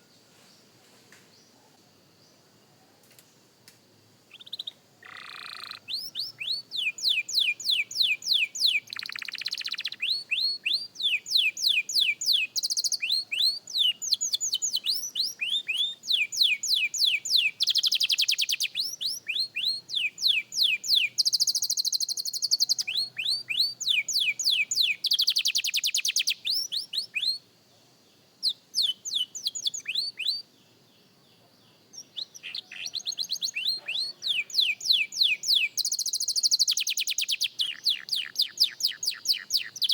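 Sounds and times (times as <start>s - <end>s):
canary singing: 4.3s - 27.4s, 28.4s - 30.5s, 31.9s - 39.9s.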